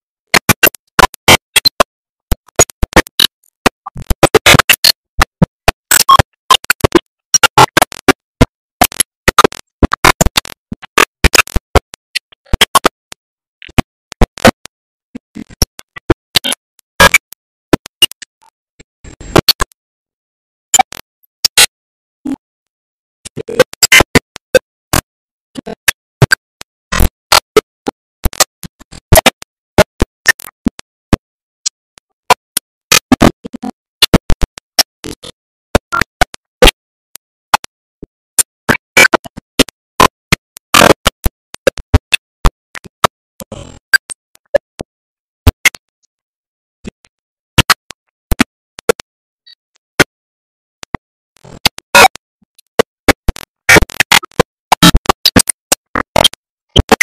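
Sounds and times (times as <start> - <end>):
glitching bursts and clicks: 0.3 - 13.0, 13.6 - 18.3, 23.3 - 36.8, 38.4 - 45.9, 47.6 - 50.2, 50.8 - 57.0.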